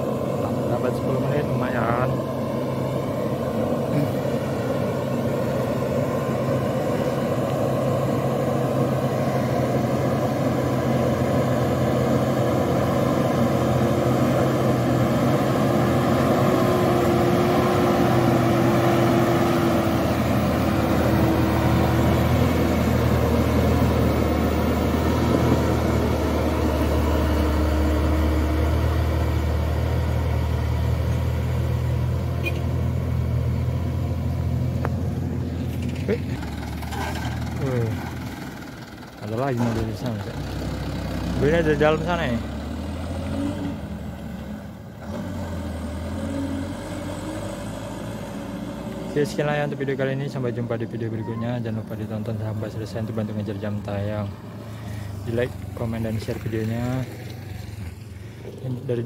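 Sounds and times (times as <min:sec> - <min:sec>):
deep engine rumble: 0:00.0 - 0:45.1, 0:46.8 - 0:59.0
diesel truck engine drone: 0:00.0 - 0:59.0.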